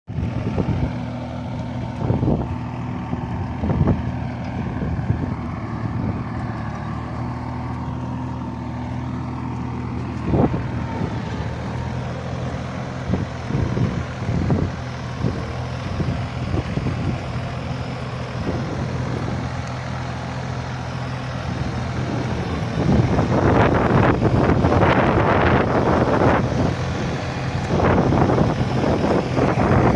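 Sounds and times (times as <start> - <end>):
rough rushing noise: 0.1 - 29.9
tractor engine running: 0.1 - 29.9.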